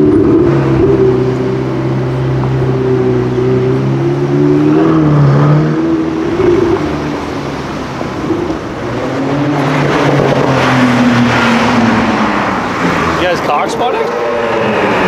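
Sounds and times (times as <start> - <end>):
sports car driving by: 0.0 - 15.0.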